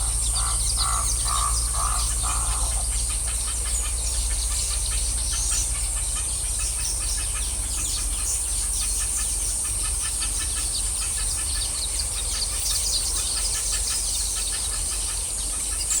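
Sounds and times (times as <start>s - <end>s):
steady high-pitched buzz: 0.0s - 16.0s
weaver birds chattering: 0.0s - 16.0s.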